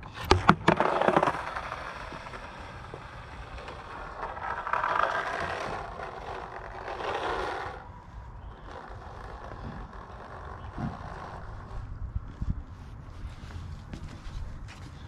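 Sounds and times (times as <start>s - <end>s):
skateboard rolling on concrete: 0.0s - 15.0s.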